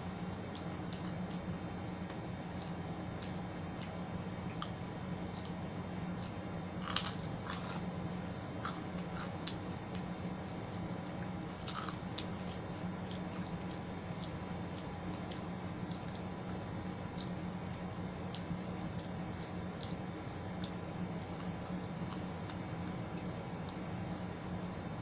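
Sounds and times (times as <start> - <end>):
chewing crunchy food: 0.0 - 24.9
steady low hum: 0.0 - 25.0.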